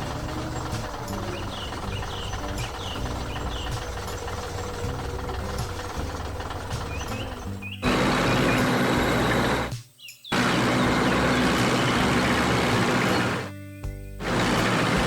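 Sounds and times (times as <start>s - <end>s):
heavy truck engine running: 0.0s - 13.6s, 14.2s - 15.0s.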